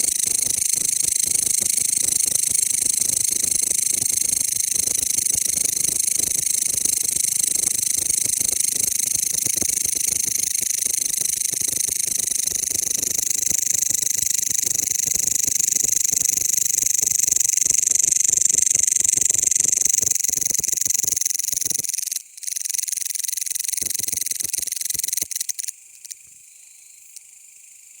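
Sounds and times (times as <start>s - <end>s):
bush cricket buzzing trill: 0.0s - 28.0s.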